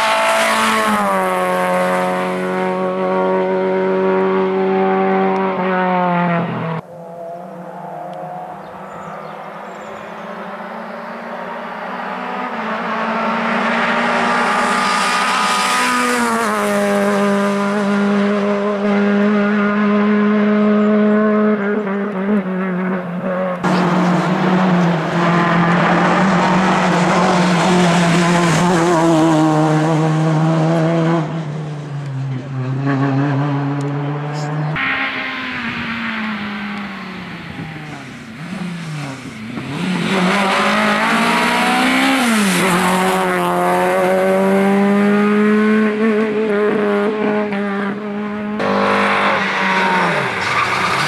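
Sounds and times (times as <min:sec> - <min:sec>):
rally car engine at high revs: 0:00.0 - 0:07.1, 0:10.6 - 0:51.0.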